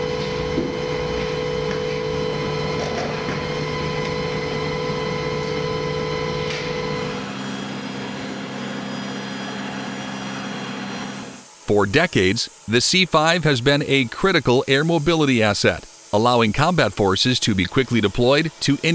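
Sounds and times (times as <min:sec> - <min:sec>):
machinery drone with whine: 0:00.0 - 0:18.9
steady machine hum: 0:00.0 - 0:18.9.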